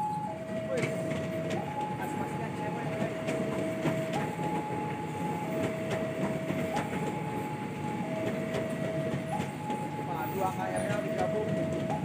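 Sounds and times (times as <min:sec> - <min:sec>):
level-crossing warning alarm: 0:00.0 - 0:12.0
train wheels rushing on rail: 0:00.0 - 0:12.0.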